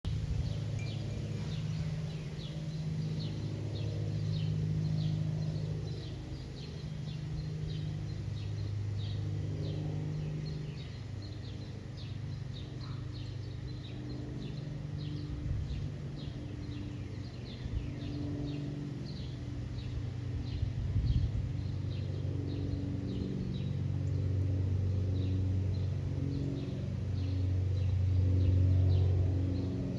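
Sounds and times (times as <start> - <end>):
propeller plane engines droning: 0.0 - 29.9.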